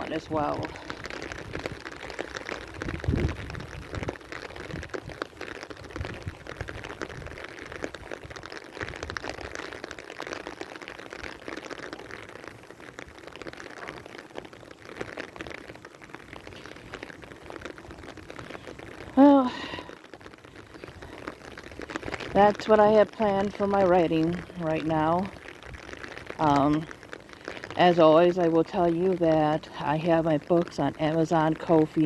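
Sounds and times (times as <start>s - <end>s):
rain pattering: 0.0s - 32.0s.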